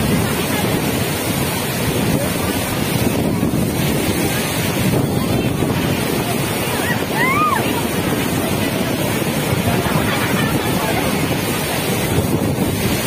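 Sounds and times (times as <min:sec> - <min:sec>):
water rushing through spillway: 0:00.0 - 0:13.0
wind buffeting microphone: 0:00.0 - 0:13.0.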